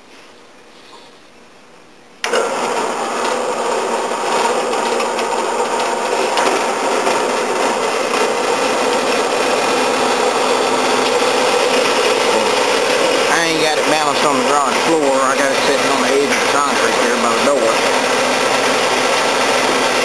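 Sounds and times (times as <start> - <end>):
bandsaw cutting metal: 2.2 - 20.0.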